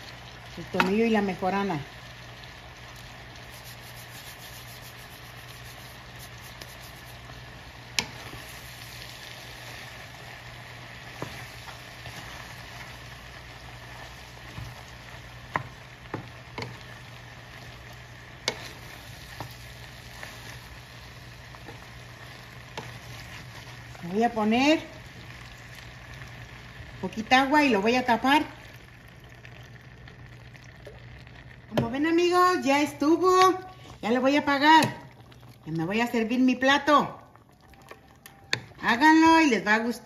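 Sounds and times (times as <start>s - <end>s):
food sizzling in a skillet: 0.0s - 40.0s.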